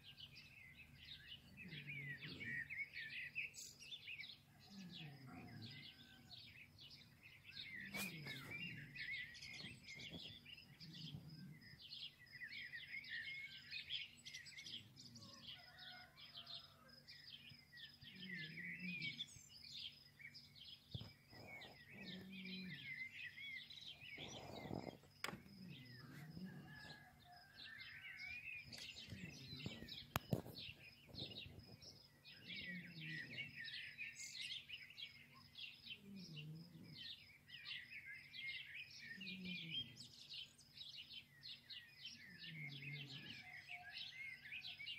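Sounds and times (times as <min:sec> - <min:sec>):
small birds chirping and twittering: 0:00.0 - 0:44.9.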